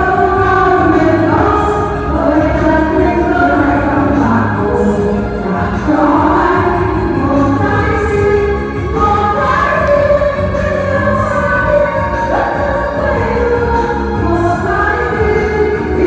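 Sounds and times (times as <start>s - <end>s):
instrumental accompaniment: 0.0s - 16.0s
voices singing together: 0.0s - 16.0s.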